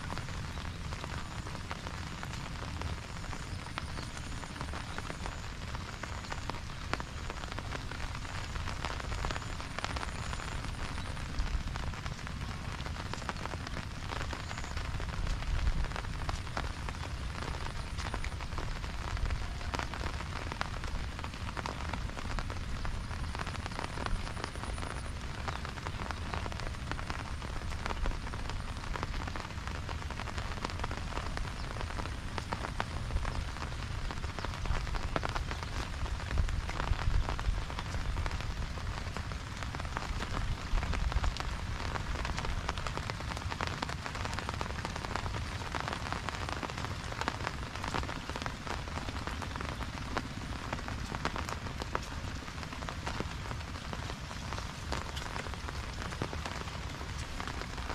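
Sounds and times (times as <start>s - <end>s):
raindrops ticking on surfaces: 0.0s - 57.9s
steady rain falling: 0.0s - 57.9s.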